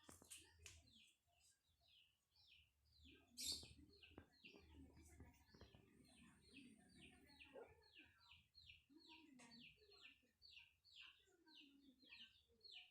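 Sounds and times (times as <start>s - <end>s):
faint bird chirping: 0.0s - 12.9s.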